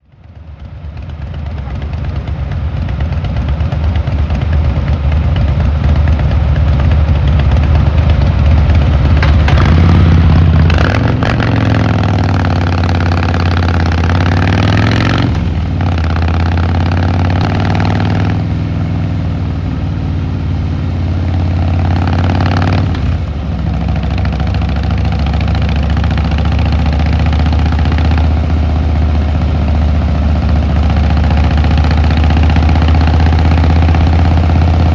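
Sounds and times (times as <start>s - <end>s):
motorcycle engine and exhaust: 0.0s - 34.9s.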